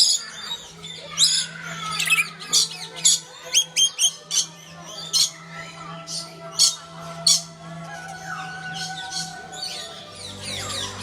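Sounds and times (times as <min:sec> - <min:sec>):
birds squawking and chirping: 0:00.0 - 0:11.0.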